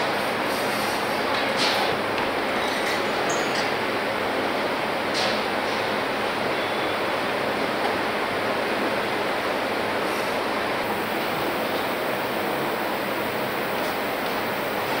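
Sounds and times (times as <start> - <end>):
factory hall background hiss: 0.0 - 15.0.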